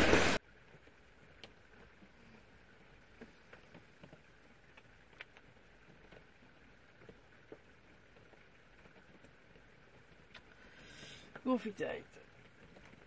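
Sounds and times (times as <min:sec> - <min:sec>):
rain dripping taps: 0:00.1 - 0:13.0.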